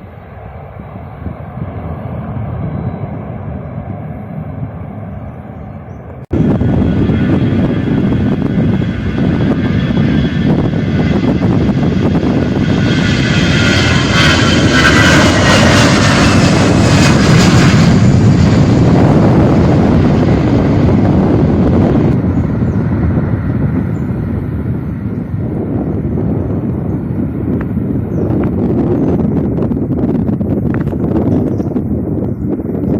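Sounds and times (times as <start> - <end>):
jet engines roaring past: 0.0 - 32.9.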